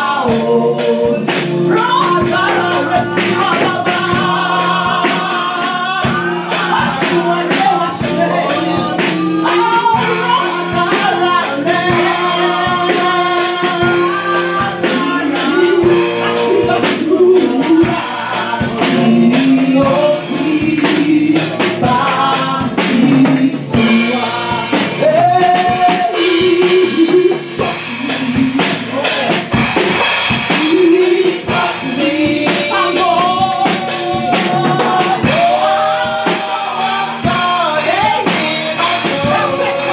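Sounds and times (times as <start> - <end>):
drum kit beat: 0.0 - 39.9
women singing gospel song: 0.0 - 39.9.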